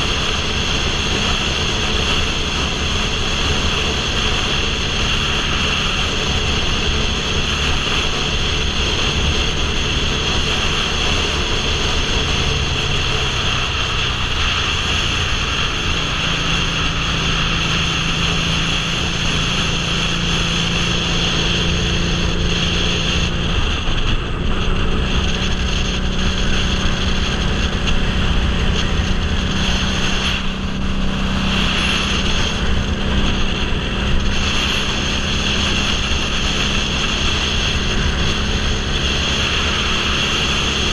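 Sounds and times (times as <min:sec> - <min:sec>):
motorcycle engine at speed: 0:00.0 - 0:40.9
wind rush on microphone: 0:00.0 - 0:40.9.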